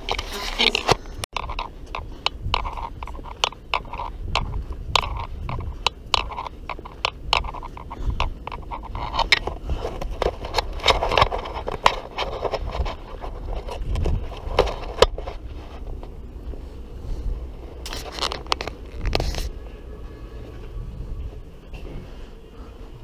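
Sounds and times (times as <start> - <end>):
footsteps and handling clicks: 0.0 - 19.7
wind rumble on microphone: 0.0 - 23.0.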